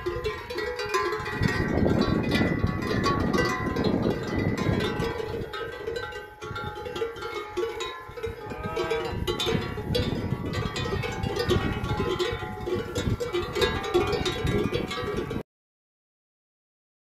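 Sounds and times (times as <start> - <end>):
cow bells clanking: 0.0 - 15.4.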